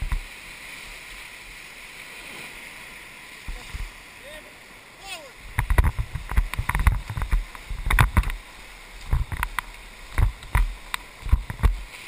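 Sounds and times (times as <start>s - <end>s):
water and paddles thumping boat: 0.0s - 12.0s
whitewater rushing: 0.0s - 12.0s.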